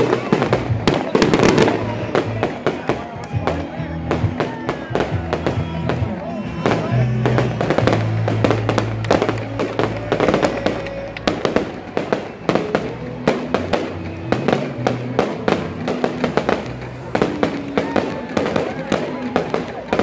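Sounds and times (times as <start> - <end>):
fireworks bangs: 0.0 - 20.0
music playing: 0.0 - 20.0.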